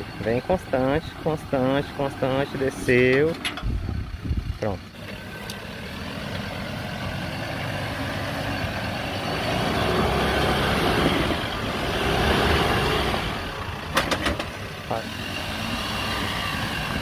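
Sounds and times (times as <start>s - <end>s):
vehicle engine pulling at low speed: 0.0s - 17.0s.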